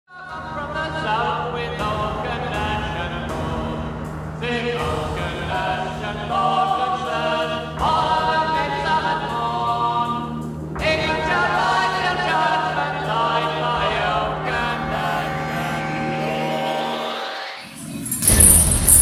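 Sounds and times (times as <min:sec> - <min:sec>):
choir singing held chords: 0:00.2 - 0:19.0.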